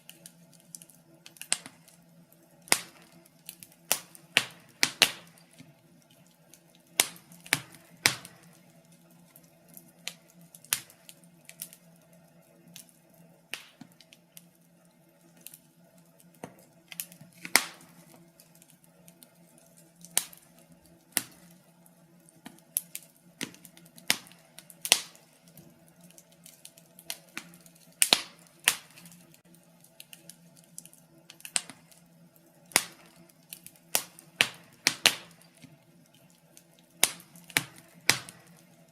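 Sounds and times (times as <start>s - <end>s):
faint steady hum: 0.0s - 38.9s
wood fire crackling and popping: 0.0s - 38.9s.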